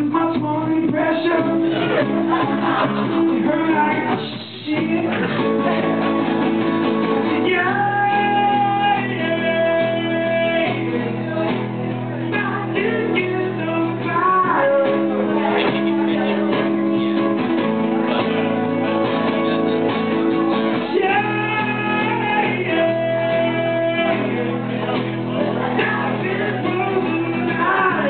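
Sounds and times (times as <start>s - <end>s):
man singing: 0.0s - 6.2s, 7.0s - 17.0s, 20.7s - 28.0s
acoustic guitar strumming: 0.0s - 28.0s.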